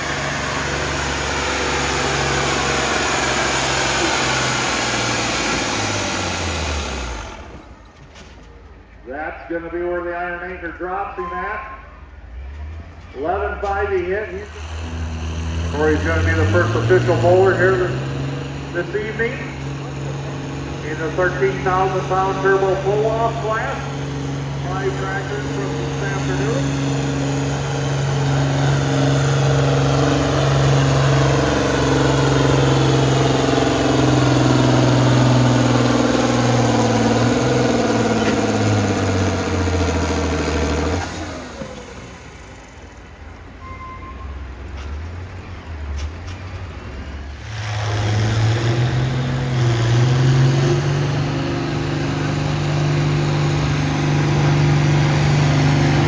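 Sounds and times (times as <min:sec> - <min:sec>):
diesel tractor engine at full power: 0:00.0 - 0:56.0
second tractor engine: 0:00.0 - 0:56.0.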